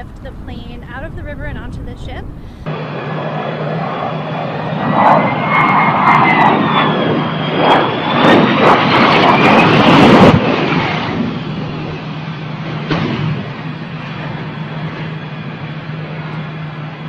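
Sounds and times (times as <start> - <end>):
aircraft engine whining: 0.0 - 17.0.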